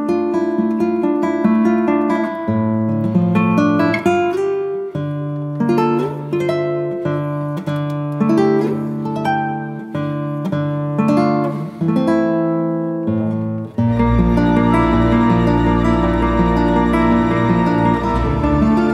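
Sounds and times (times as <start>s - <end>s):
acoustic guitar plucking: 0.0s - 18.9s.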